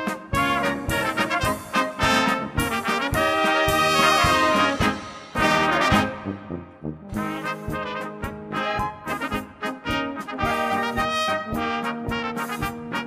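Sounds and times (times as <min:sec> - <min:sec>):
steady drum beat: 0:00.0 - 0:13.0
trumpets and trombones playing: 0:00.0 - 0:13.0.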